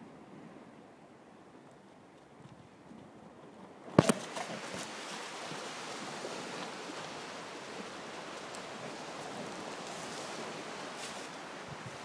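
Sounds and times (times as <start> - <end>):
surf on a beach: 0.0 - 1.7, 3.5 - 12.0.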